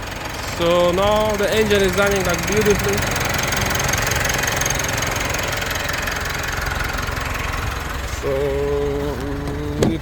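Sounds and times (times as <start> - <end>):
pickup engine running: 0.0 - 10.0.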